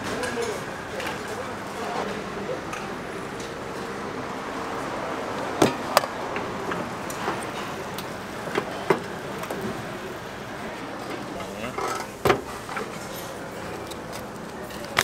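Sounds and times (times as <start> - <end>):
street food stall background noise: 0.0 - 15.0.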